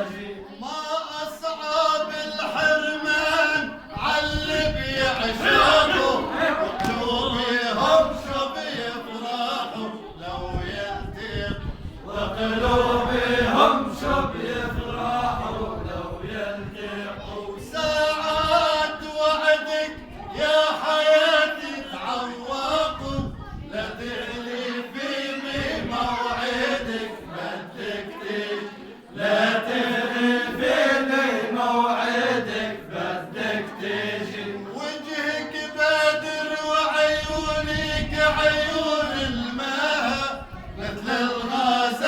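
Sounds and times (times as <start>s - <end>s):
man singing with vibrato: 0.0s - 27.8s, 29.2s - 42.0s.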